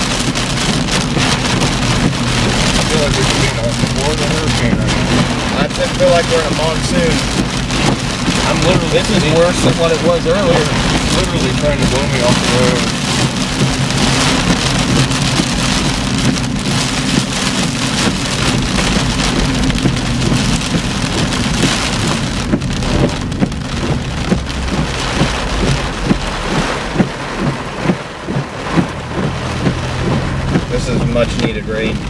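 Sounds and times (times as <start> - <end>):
heavy rain on car roof: 0.0 - 32.0
heavy raindrop hits: 0.0 - 32.0.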